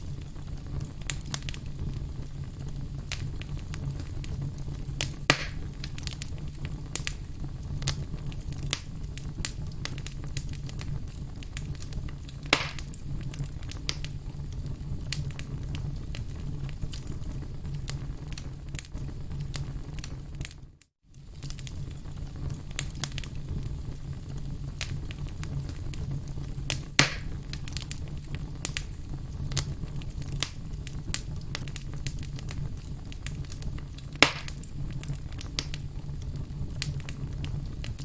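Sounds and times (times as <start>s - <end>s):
firewood crackling: 0.0s - 38.0s
loud fire pops: 0.0s - 38.0s.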